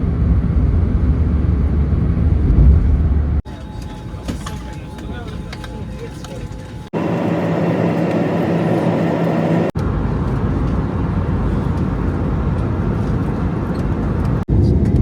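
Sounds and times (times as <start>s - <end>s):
vehicle running rumble: 0.0s - 15.0s.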